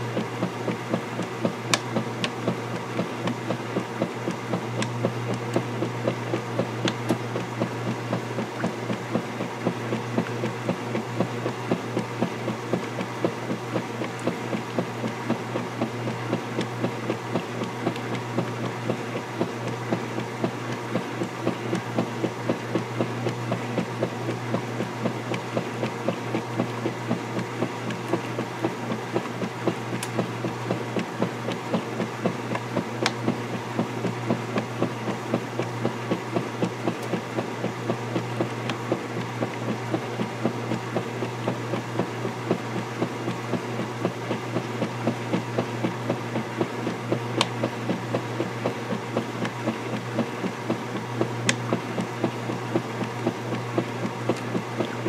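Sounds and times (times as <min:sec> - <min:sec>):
agitator churning: 0:00.0 - 0:55.0
washing machine motor hum: 0:00.0 - 0:55.0.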